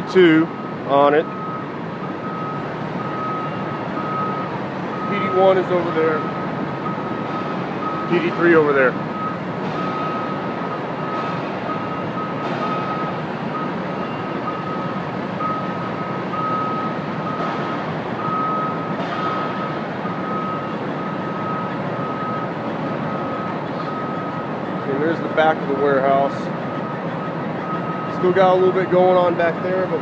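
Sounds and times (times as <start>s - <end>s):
electronic alarm beeping: 0.3s - 26.2s, 26.8s - 29.3s.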